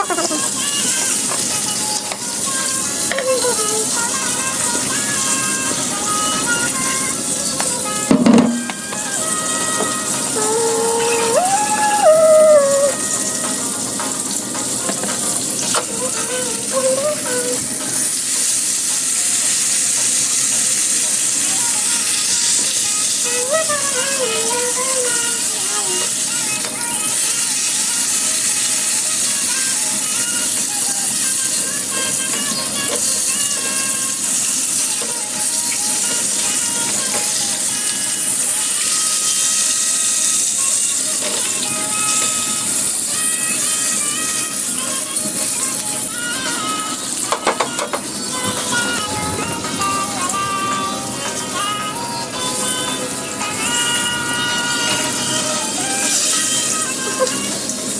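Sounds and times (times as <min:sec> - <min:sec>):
food sizzling in hot oil: 0:00.0 - 0:57.9
music with held-note melody: 0:00.0 - 0:57.9.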